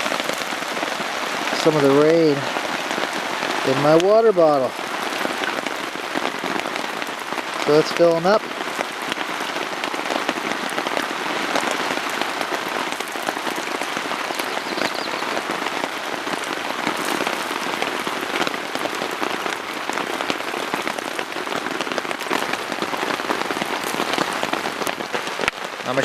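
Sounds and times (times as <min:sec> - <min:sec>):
rain on a tarp: 0:00.0 - 0:26.0.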